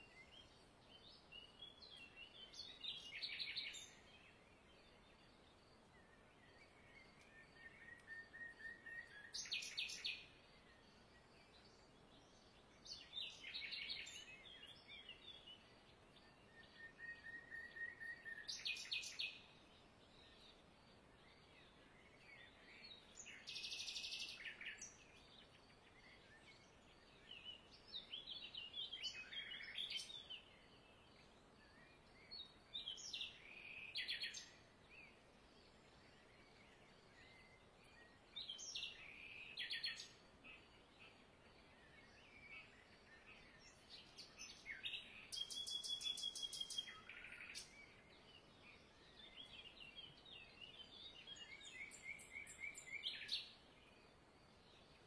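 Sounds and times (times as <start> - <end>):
birds chirping and trilling: 0.0 - 55.0
faint background hiss: 0.0 - 55.0.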